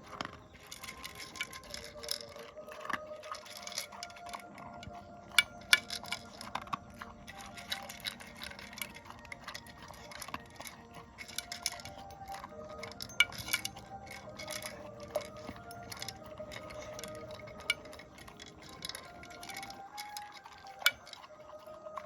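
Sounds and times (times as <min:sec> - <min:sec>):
faint background music: 0:00.0 - 0:22.0
pet eating from a bowl: 0:00.0 - 0:22.0.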